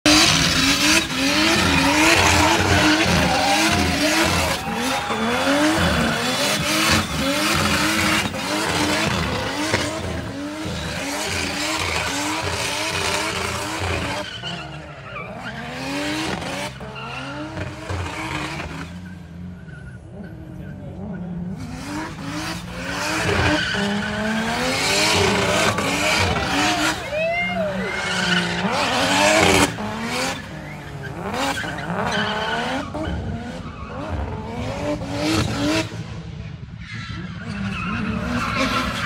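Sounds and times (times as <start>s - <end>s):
car engine revving: 0.0s - 36.2s.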